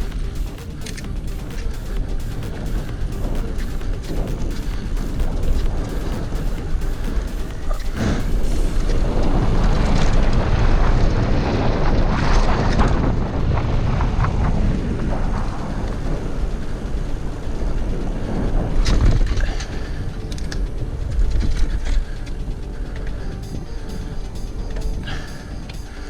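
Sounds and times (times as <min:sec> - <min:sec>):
bicycle tyre rumble: 0:00.0 - 0:26.0
wind rushing over microphone: 0:00.0 - 0:26.0.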